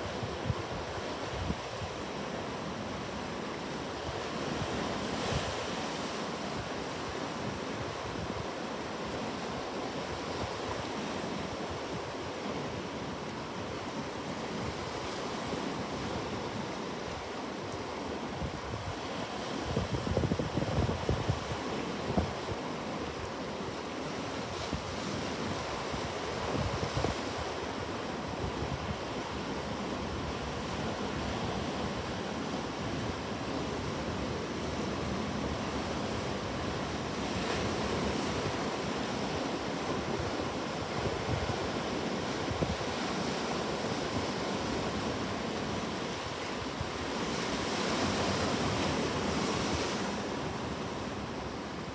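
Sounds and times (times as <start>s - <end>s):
ocean waves washing onto shore: 0.0s - 51.9s.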